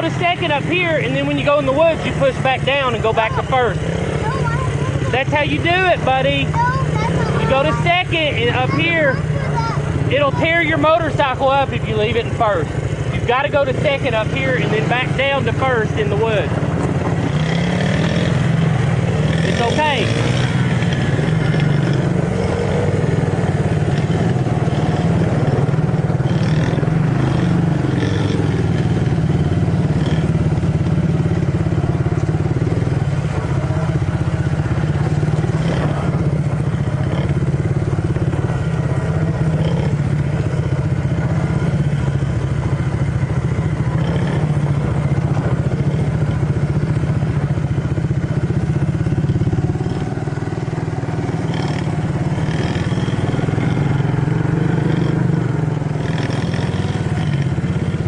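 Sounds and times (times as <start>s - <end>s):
four-wheeler engine: 0.0s - 58.0s
small dirt bike engine running: 0.0s - 58.0s.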